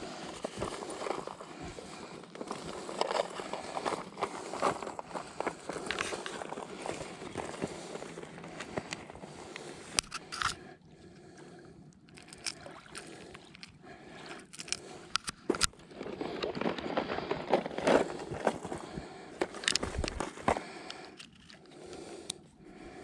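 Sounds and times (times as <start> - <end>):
clicks scrapes and crunches of handling: 0.2 - 10.6, 12.0 - 22.4.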